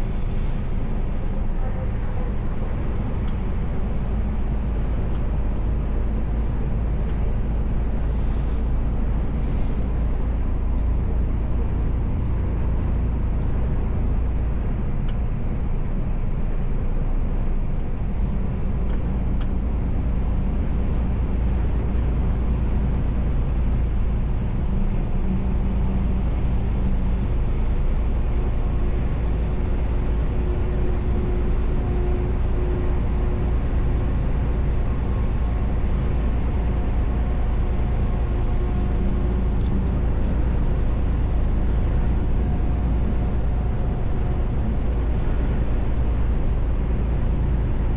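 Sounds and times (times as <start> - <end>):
diesel engine drone: 0.0 - 47.9
road and tyre noise: 0.0 - 47.9.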